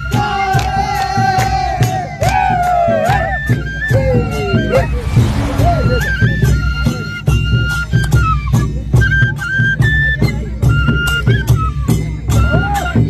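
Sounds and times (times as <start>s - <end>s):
wooden flute playing: 0.0s - 13.0s.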